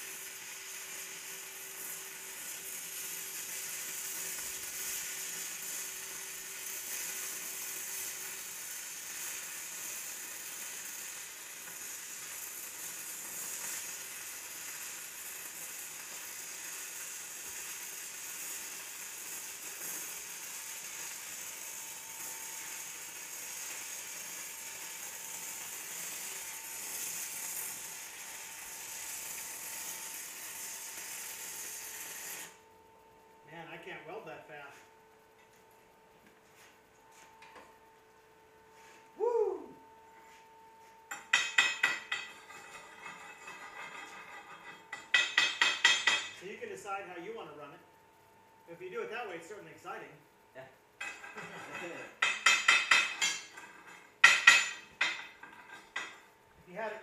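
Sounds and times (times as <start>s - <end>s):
welding arc crackling sizzle: 0.0s - 40.4s, 41.1s - 57.0s.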